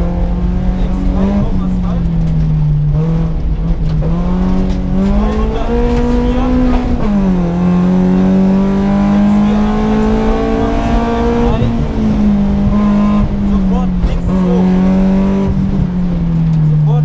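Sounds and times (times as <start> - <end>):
car engine revving: 0.0 - 17.0
road noise: 0.0 - 17.0.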